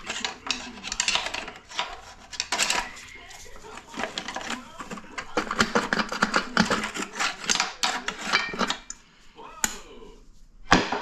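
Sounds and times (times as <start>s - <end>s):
metal parts clinking and clattering: 0.0s - 9.0s.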